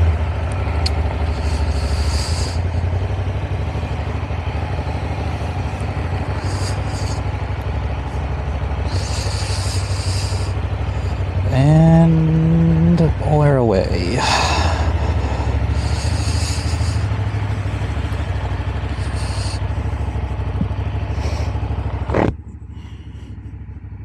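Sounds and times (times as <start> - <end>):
motorcycle engine pulsing: 0.0 - 24.0.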